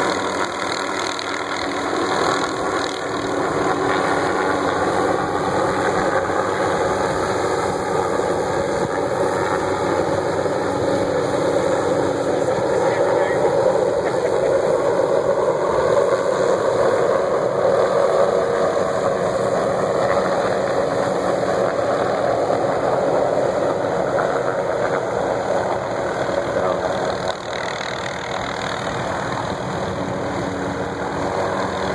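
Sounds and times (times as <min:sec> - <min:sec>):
helicopter drone: 0:00.0 - 0:31.9.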